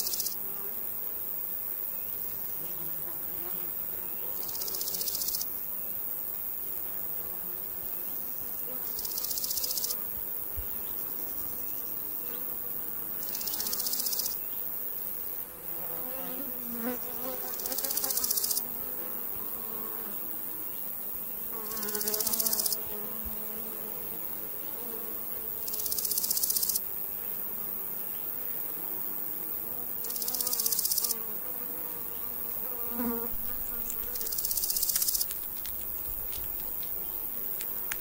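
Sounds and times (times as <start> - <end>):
insect buzzing pulses: 0.0 - 38.0.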